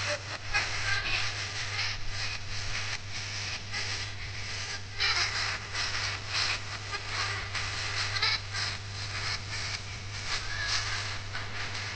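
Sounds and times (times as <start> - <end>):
noisy pulsing audio from speakers: 0.0 - 11.9
steady low hum: 0.0 - 11.9.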